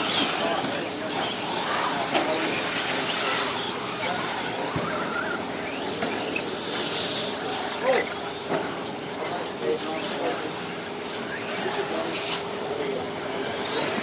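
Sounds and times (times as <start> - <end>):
electric motors whining: 0.0 - 14.0
steady background noise: 0.0 - 14.0.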